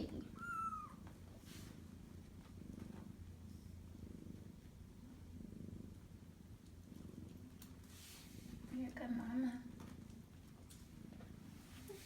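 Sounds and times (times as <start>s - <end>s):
cat purring: 1.7s - 12.0s.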